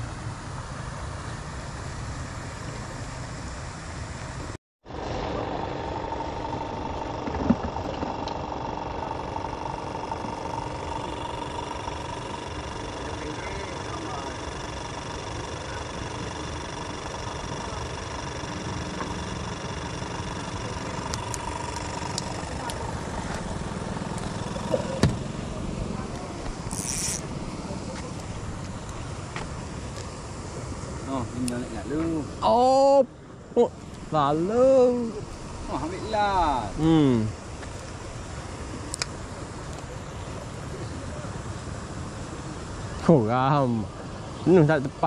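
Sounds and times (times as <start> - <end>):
aerator motor humming: 0.0 - 45.0.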